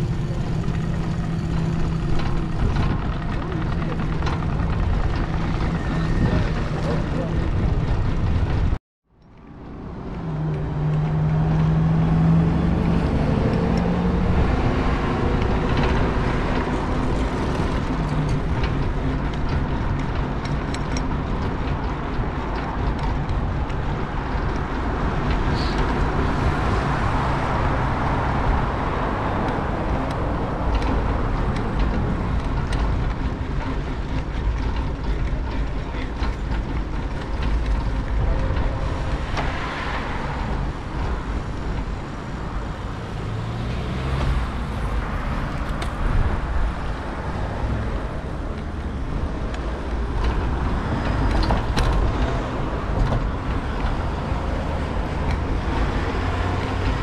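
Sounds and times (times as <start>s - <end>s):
wind buffeting microphone: 0.0s - 8.8s, 9.6s - 57.0s
bicycle tyre and road noise: 0.0s - 57.0s
passing motor traffic hum: 0.0s - 57.0s.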